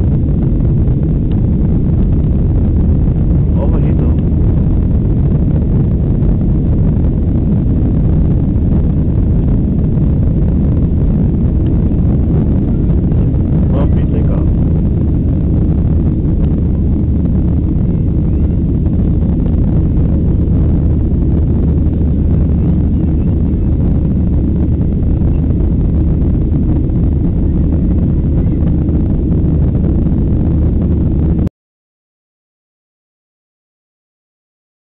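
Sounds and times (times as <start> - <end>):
jet engines roaring in cabin: 0.0 - 31.5
rushing air: 0.0 - 31.5.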